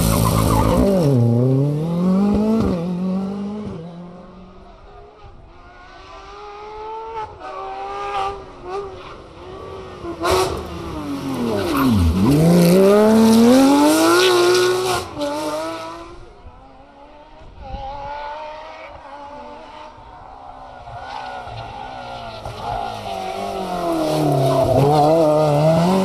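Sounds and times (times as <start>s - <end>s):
rally car engine revving: 0.0s - 4.6s, 5.2s - 26.0s.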